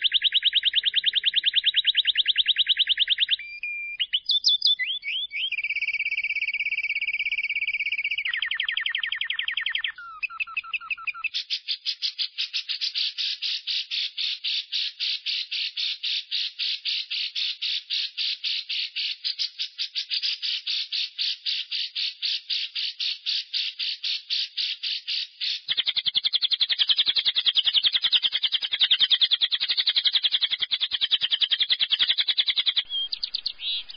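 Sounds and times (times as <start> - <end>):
lovebird chattering trill: 0.0 - 33.9.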